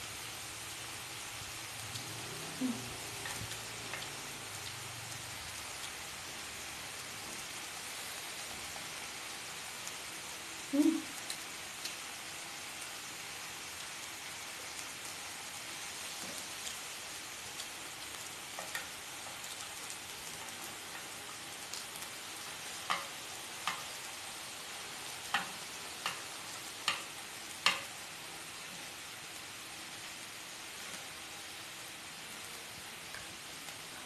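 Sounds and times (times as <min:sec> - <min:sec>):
meat sizzling in a pan: 0:00.0 - 0:34.0.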